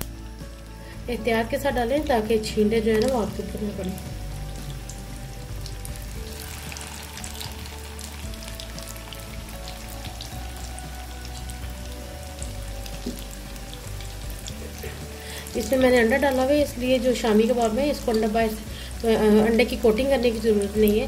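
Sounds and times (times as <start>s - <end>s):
patties sizzling in oil: 0.0s - 21.0s.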